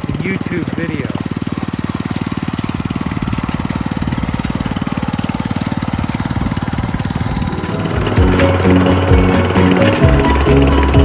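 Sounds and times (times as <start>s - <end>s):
small tractor engine running: 0.0s - 11.0s.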